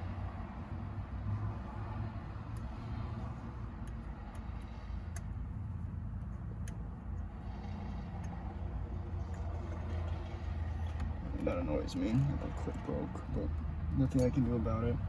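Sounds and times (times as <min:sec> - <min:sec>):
hand tools and metal parts clicking: 0:02.4 - 0:14.7.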